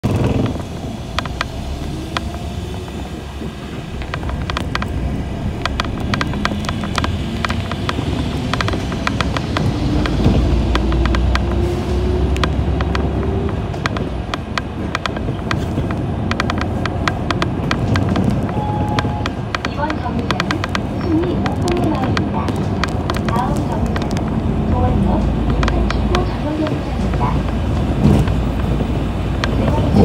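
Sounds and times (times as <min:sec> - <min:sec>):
bus engine and road rumble: 0:00.0 - 0:30.0
rattling clicks: 0:00.1 - 0:11.6, 0:12.2 - 0:30.0.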